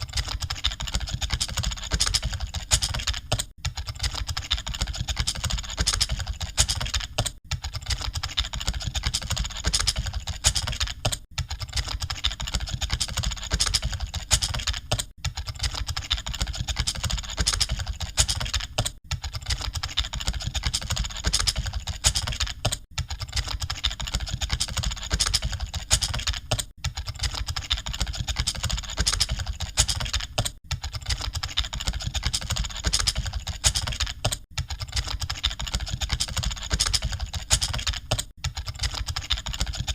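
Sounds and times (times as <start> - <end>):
computer keyboards typing: 0.0 - 39.9.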